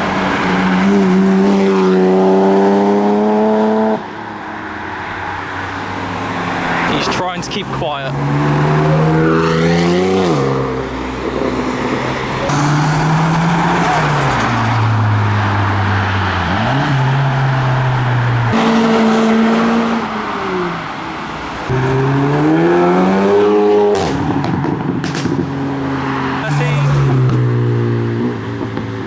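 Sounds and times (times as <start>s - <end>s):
cars accelerating past: 0.0s - 29.0s.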